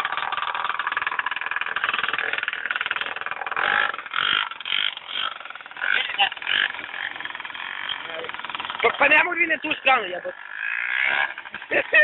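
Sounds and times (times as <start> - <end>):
motorcycle exhaust fluttering: 0.0 - 12.0.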